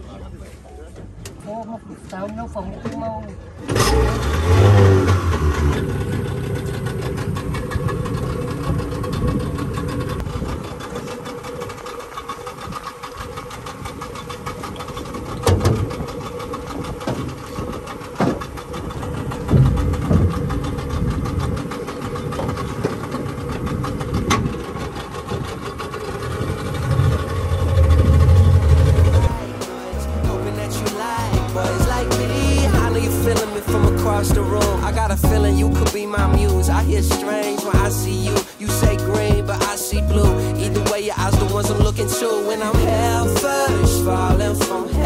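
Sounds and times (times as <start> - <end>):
outboard motor idling: 0.0 - 45.0.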